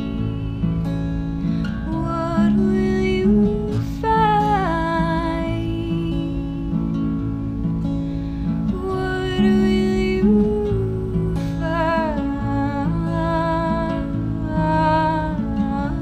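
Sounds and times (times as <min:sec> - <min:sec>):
woman singing slow melody: 0:00.0 - 0:07.4, 0:08.5 - 0:16.0
strummed acoustic guitar: 0:00.0 - 0:16.0.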